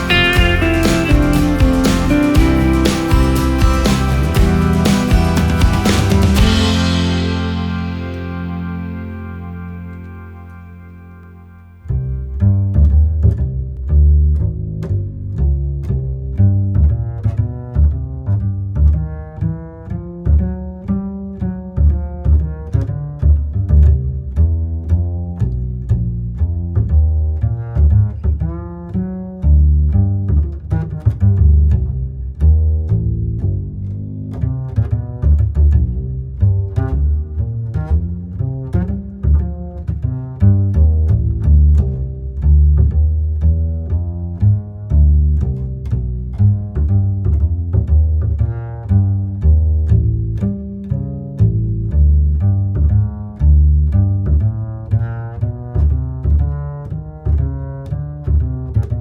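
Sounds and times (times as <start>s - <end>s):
instrumental music with deep bass: 0.0s - 59.0s.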